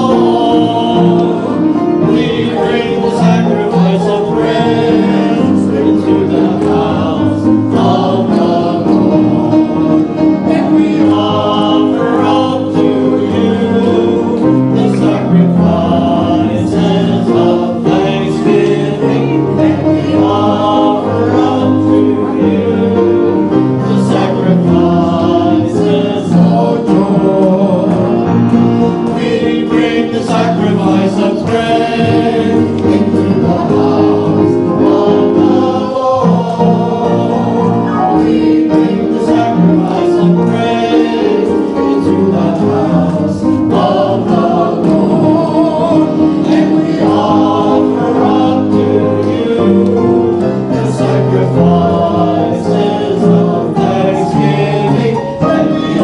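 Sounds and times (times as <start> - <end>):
choir singing a hymn: 0.0 - 56.0
piano accompaniment: 0.0 - 56.0.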